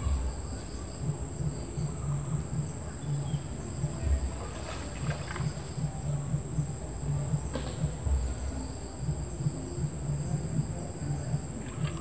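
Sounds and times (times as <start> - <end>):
insects chirring: 0.0 - 12.0
low pulsing rumble: 0.0 - 12.0.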